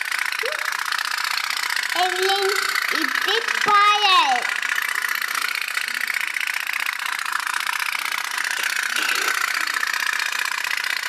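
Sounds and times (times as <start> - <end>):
toy steam boat putt-putt: 0.0 - 11.0.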